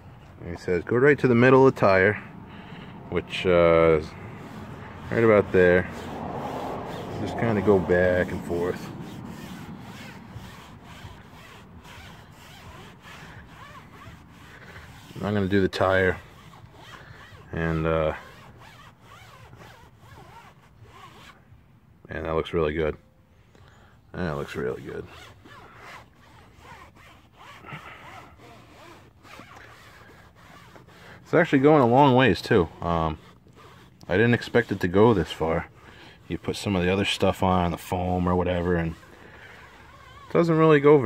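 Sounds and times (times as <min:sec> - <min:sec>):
foam pad scrubbing rubber tire: 0:00.4 - 0:21.4, 0:24.2 - 0:41.0.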